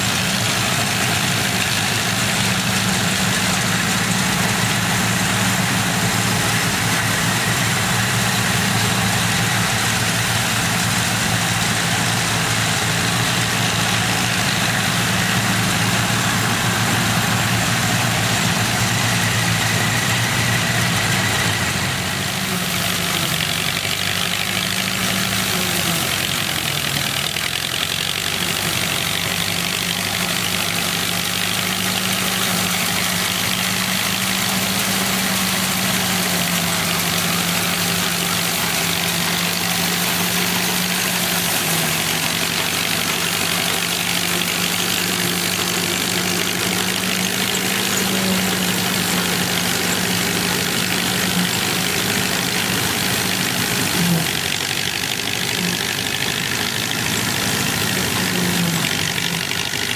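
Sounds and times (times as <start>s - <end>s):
engine running under load: 0.0s - 59.9s
threshing machinery clatter: 0.0s - 59.9s.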